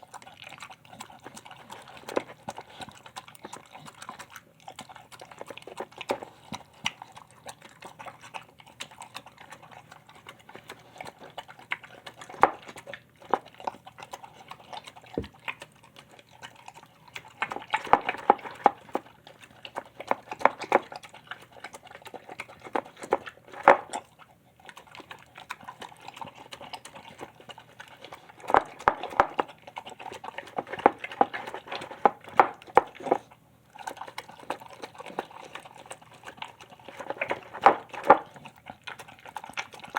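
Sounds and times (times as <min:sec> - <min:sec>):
dog chewing and smacking: 0:00.0 - 0:39.9.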